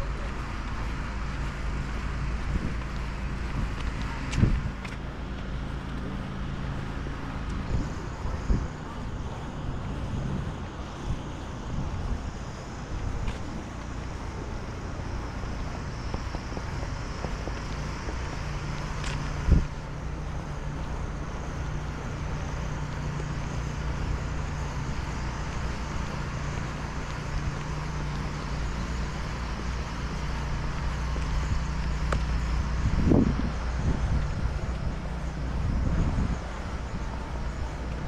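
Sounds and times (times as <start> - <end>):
traffic engine hum: 0.0 - 38.0.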